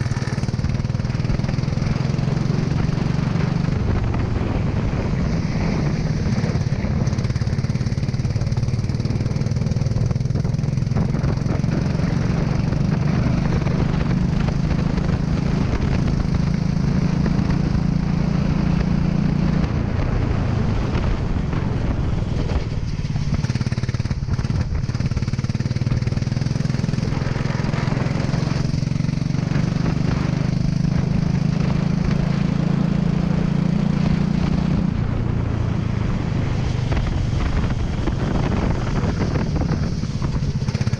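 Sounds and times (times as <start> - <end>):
racing kart engine: 0.0 - 40.9.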